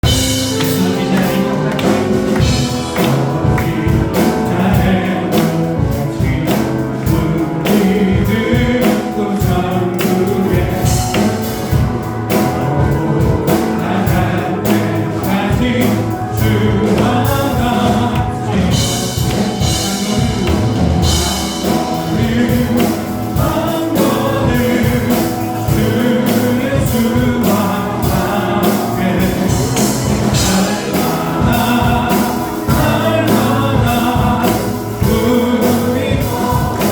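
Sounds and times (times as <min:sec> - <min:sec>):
band playing: 0:00.0 - 0:36.9
group of voices singing: 0:00.0 - 0:36.9.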